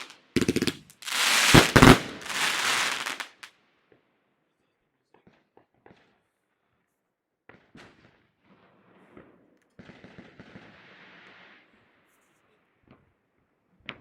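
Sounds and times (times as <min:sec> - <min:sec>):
faint fireworks bangs and crackle: 0:00.0 - 0:14.0.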